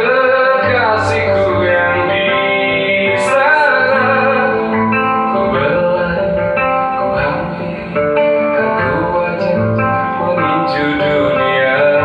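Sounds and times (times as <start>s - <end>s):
acoustic guitar playing: 0.0s - 12.0s
person singing: 0.0s - 12.0s.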